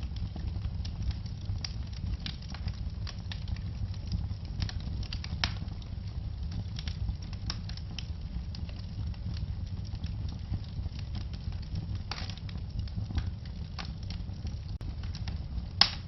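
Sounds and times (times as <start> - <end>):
low rumble of burning fire: 0.0 - 16.0
wood fire crackling and popping: 0.0 - 16.0.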